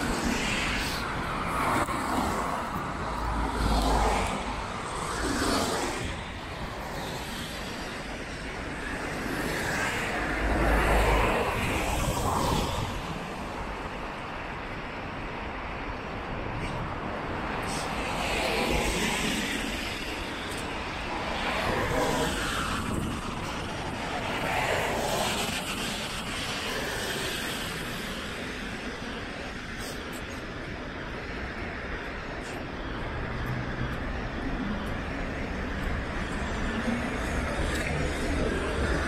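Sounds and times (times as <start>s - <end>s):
cars passing on wet road: 0.0s - 39.0s
traffic hum: 0.0s - 39.0s.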